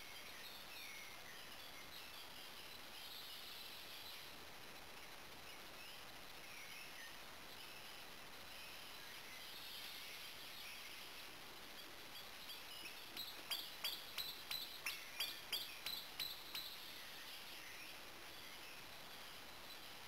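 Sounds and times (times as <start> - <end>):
faint woodland birdsong: 0.0 - 20.0.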